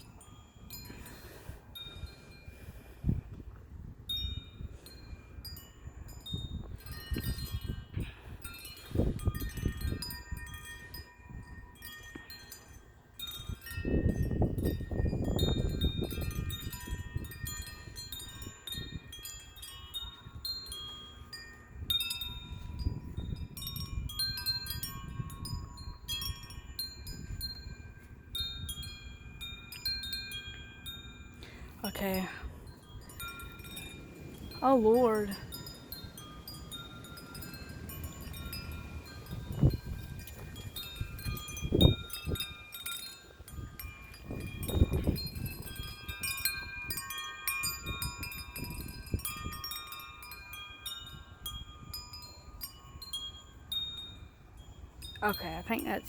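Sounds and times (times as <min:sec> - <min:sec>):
wind chimes ringing: 0:00.0 - 0:03.2, 0:04.0 - 0:56.0
wind buffeting microphone: 0:00.0 - 0:12.4, 0:13.0 - 0:31.0, 0:31.6 - 0:56.0.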